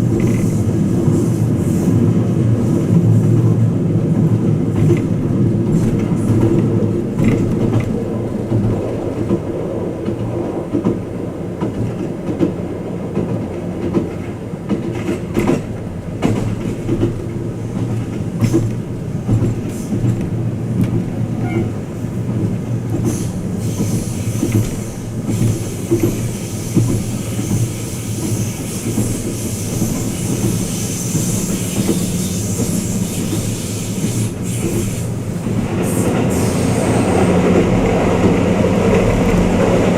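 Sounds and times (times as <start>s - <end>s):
train rumble inside compartment: 0.0s - 39.9s.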